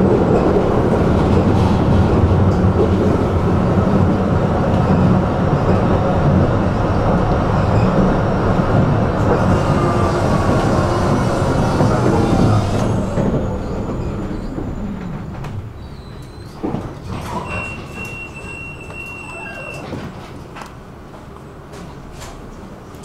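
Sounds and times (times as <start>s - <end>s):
tram wheels rumbling on rails: 0.0s - 23.0s.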